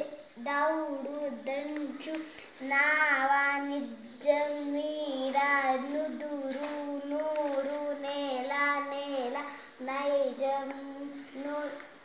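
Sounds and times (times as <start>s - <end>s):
children chanting a sing-song tune: 0.0s - 11.9s.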